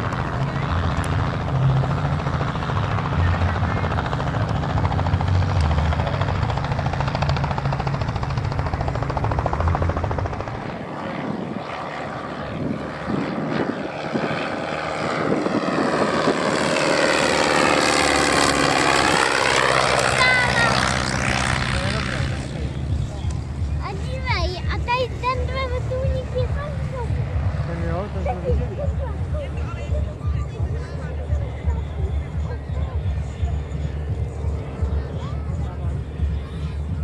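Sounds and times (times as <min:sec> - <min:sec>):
light aircraft engine droning: 0:00.0 - 0:37.0.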